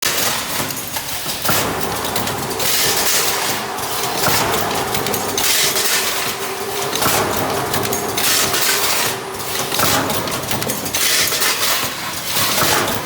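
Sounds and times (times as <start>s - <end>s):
steady machine hiss: 1.2s - 13.0s
spot welding surges: 1.4s - 12.7s.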